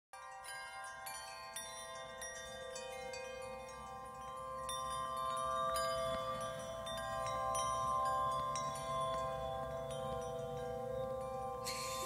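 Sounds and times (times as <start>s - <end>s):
twinkling wind-chime notes: 0.2s - 12.0s.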